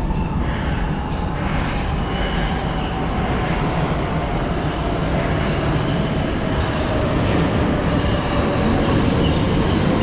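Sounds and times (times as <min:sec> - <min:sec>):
metro train rumble: 0:00.0 - 0:10.0.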